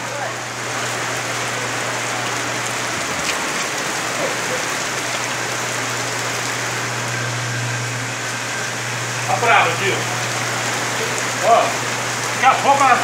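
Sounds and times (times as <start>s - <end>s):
low hum: 0.0s - 12.4s
heavy rain on a flooded street: 0.0s - 13.0s.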